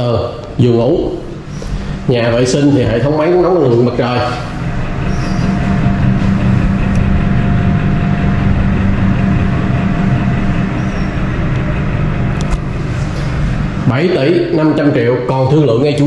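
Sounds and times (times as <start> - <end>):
faint steady hum: 0.0 - 16.0
low machinery rumble: 0.0 - 16.0.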